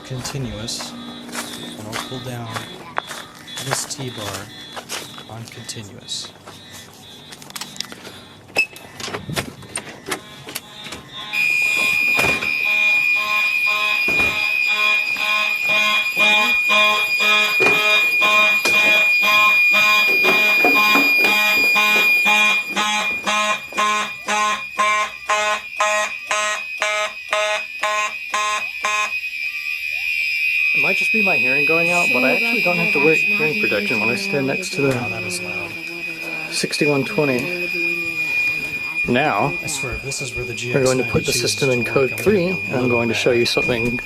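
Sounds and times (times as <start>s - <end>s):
fire alarm horns pulsing: 0.0s - 44.0s
fire alarm steady high tone: 0.0s - 44.0s.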